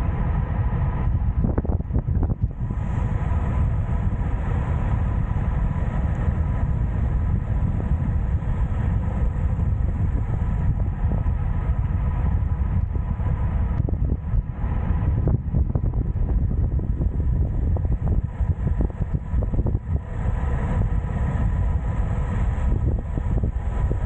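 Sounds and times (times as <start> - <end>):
faint hum: 0.0 - 24.0
wind buffeting microphone: 0.0 - 24.0.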